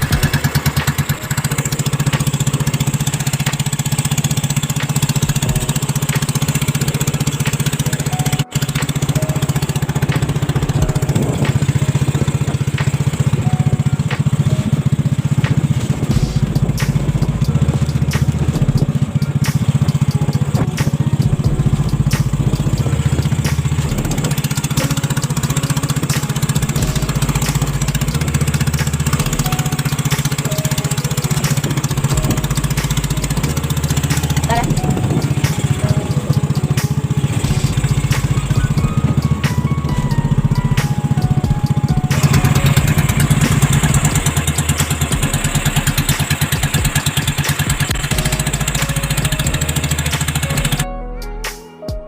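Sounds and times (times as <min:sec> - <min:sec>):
small engine humming: 0:00.0 - 0:50.8.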